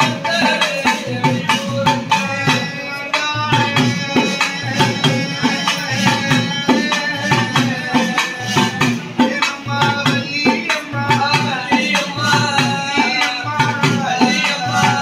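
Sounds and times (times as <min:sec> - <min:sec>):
folk drums beating fast: 0:00.0 - 0:15.0.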